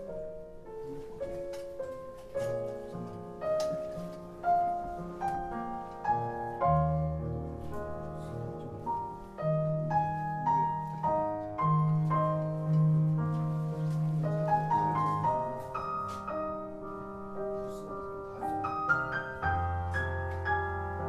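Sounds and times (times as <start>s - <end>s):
slow solo piano piece: 0.0s - 21.0s.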